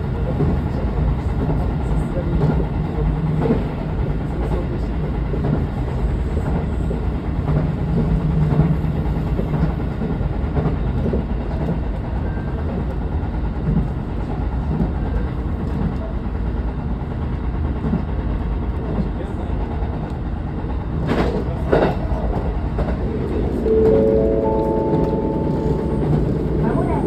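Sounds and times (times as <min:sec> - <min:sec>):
rumble of train wheels: 0:00.0 - 0:27.0.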